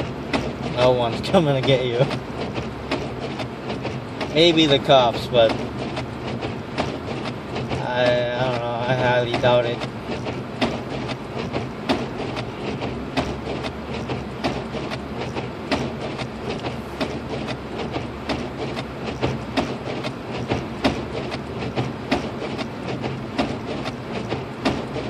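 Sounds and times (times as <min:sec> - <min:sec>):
road and engine rumble: 0:00.0 - 0:25.0
sharp clicks and ticks: 0:00.3 - 0:25.0.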